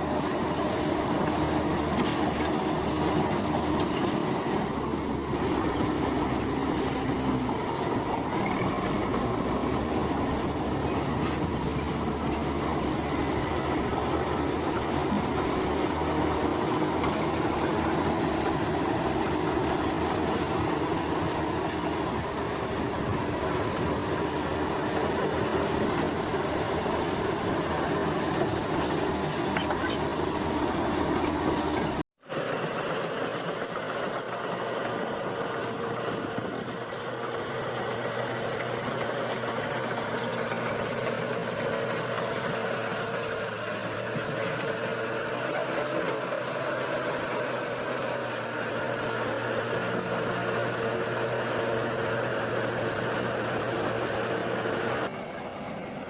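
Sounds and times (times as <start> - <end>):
steel tracks clanking: 0.0 - 55.1
thin high squeal: 0.0 - 55.1
diesel engine under load: 0.0 - 56.0.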